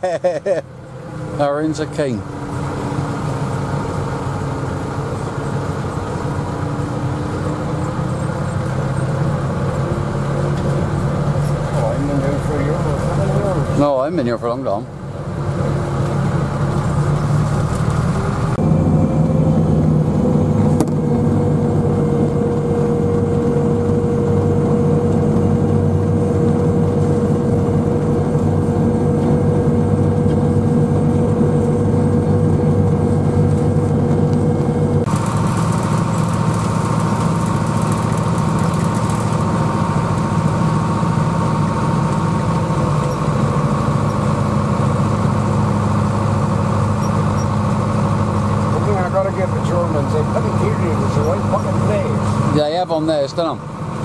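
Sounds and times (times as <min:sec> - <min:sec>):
tractor engine running: 0:00.0 - 0:54.0
steady whine: 0:00.6 - 0:54.0.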